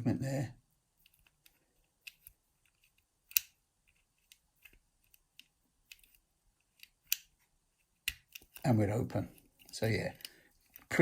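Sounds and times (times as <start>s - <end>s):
small metallic clicks of lock picking: 1.0s - 8.7s, 9.4s - 10.9s.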